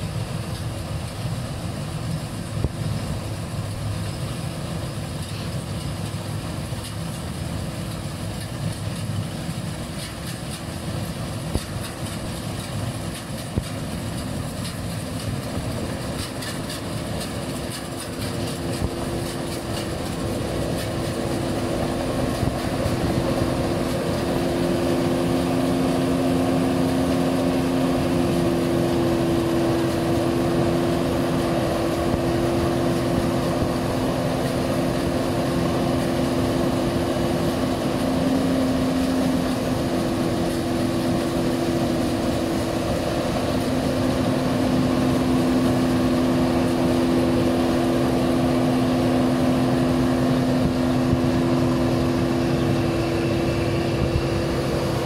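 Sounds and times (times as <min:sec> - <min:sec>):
combine harvester engine humming: 0:00.0 - 0:55.0.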